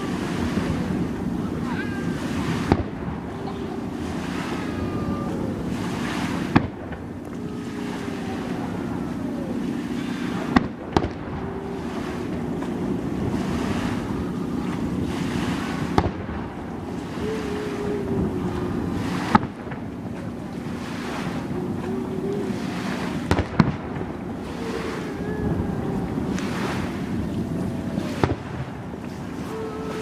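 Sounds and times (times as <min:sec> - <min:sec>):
fireworks bangs: 0:00.0 - 0:30.0
wind rumble: 0:00.0 - 0:30.0.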